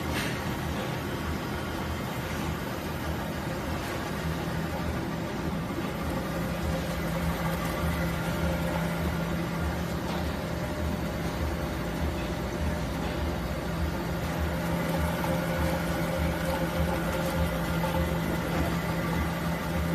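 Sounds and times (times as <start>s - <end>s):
machine hum with pulsing throb: 0.0s - 19.9s.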